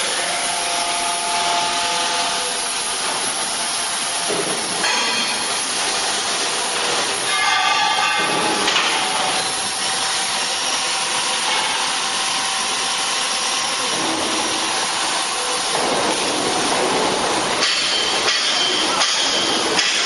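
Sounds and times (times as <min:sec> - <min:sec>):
hydraulic baler hissing: 0:00.0 - 0:20.0.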